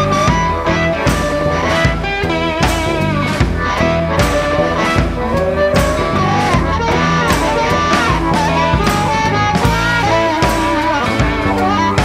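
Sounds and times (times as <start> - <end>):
lead guitar melody: 0.0 - 12.0
rock music: 0.0 - 12.0
steady drum beat: 0.0 - 12.0.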